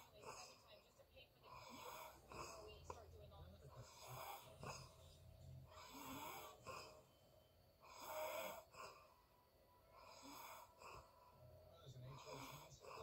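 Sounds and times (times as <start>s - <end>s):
person snoring softly: 1.4s - 13.0s.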